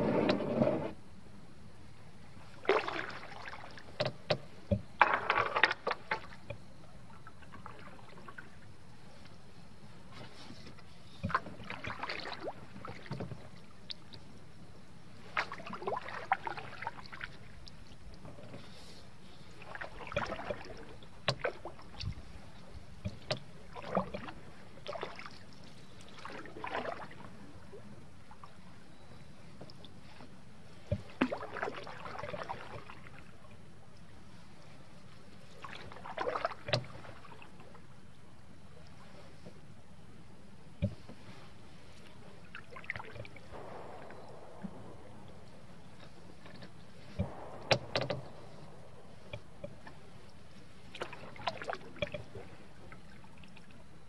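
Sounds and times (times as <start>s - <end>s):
moving water: 0.0s - 54.0s
paddle strokes splashing: 2.4s - 14.4s, 15.0s - 38.0s, 40.8s - 54.0s.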